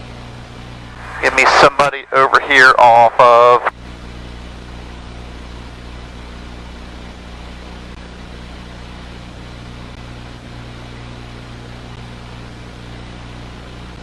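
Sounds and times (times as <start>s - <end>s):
helicopter cabin drone: 0.0s - 14.0s.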